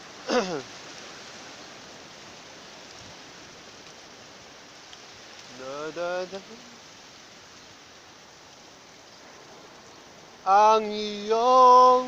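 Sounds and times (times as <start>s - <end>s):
shallow seawater hissing: 0.0s - 12.0s.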